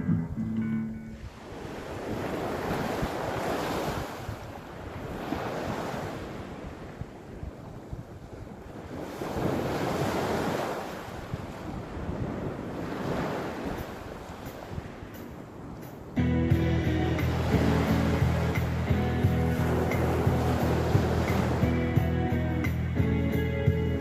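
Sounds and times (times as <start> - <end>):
wind buffeting microphone: 0.0 - 22.4
sea waves washing ashore: 1.0 - 24.0.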